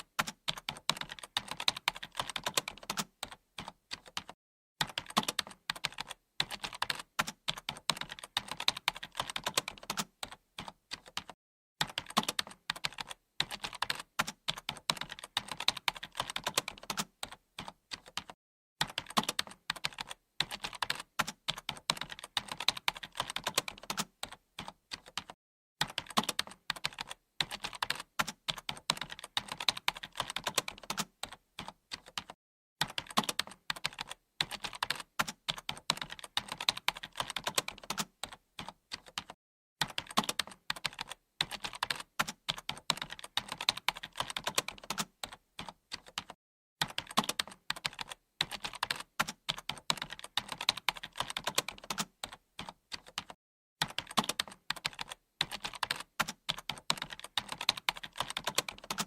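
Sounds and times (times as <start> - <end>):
keyboard typing clicks: 0.0 - 59.0.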